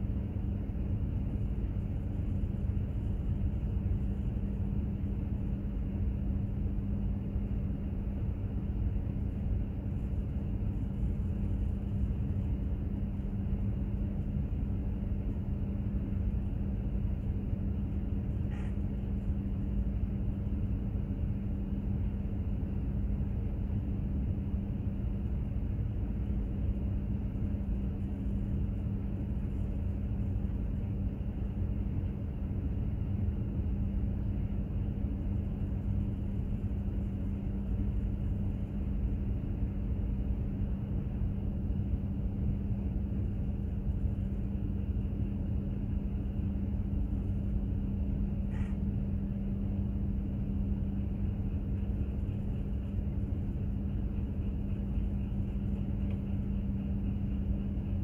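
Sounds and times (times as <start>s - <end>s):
constant hum: 0.0s - 58.0s.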